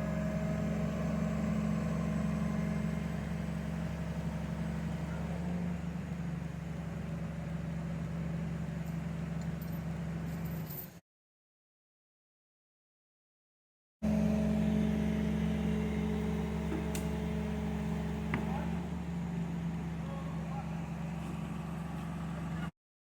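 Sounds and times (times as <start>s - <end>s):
engine humming: 0.0s - 10.7s, 14.0s - 22.7s.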